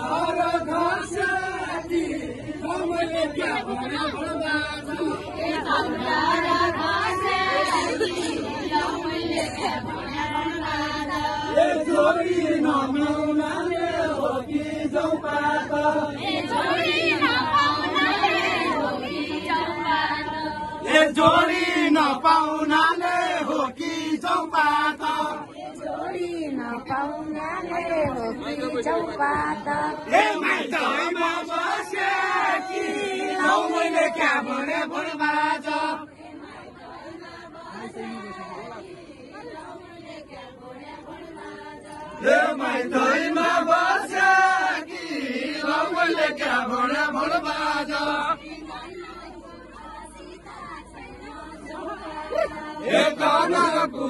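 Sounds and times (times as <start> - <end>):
crowd voices: 0.0 - 54.0
group singing folk song in unison: 0.0 - 54.0.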